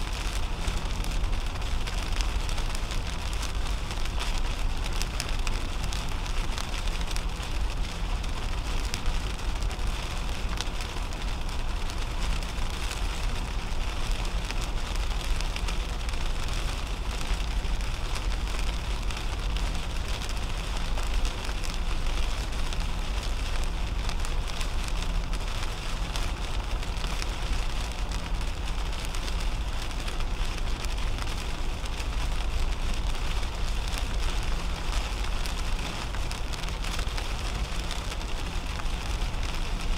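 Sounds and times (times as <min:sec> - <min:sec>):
rain ticking on car windshield: 0:00.0 - 0:39.9
tyres rumbling on wet road: 0:00.0 - 0:39.9.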